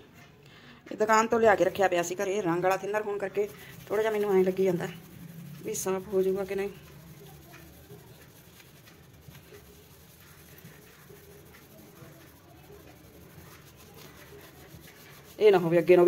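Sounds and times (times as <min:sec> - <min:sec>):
cloth scrubbing ceramic tiles: 0:01.6 - 0:16.0.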